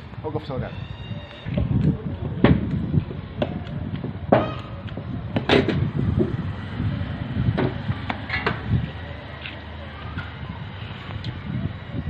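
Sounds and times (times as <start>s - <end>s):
low rumbling handling noise: 1.2s - 12.0s.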